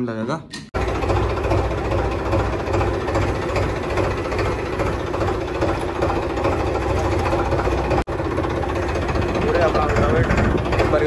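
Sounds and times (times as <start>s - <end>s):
tractor diesel engine rumbling: 0.8s - 11.0s.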